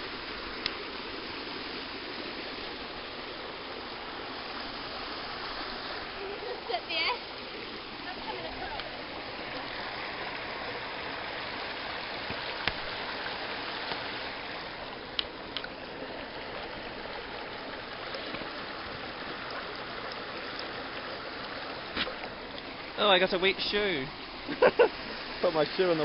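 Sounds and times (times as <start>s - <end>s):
stream running over rocks: 0.0s - 26.0s.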